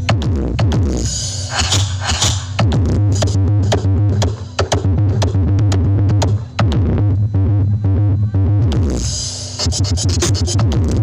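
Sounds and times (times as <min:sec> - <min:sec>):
loud electronic dance music: 0:00.0 - 0:07.1, 0:08.6 - 0:11.0.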